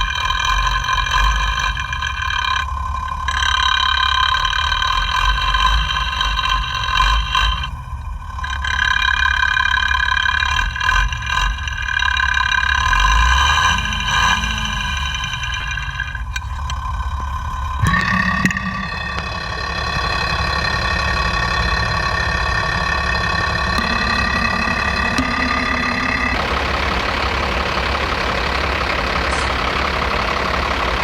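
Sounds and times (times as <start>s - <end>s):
diesel engine idling close up: 0.0s - 31.0s.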